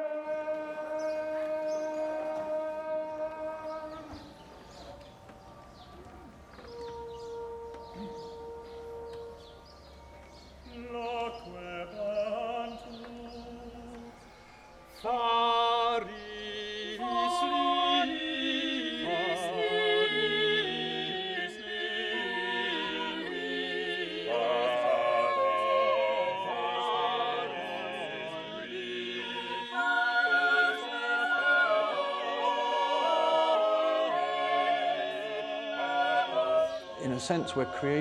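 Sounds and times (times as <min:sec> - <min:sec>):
a cappella choir singing: 0:00.0 - 0:05.5, 0:06.3 - 0:38.0.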